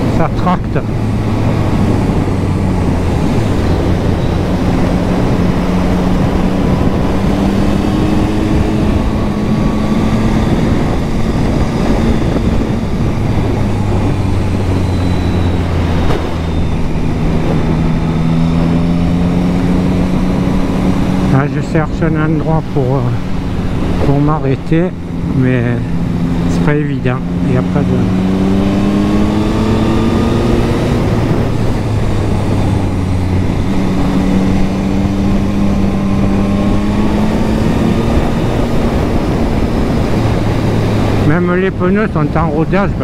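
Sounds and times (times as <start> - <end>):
motorcycle engine accelerating: 0.0 - 43.0
wind rush on microphone: 0.0 - 43.0.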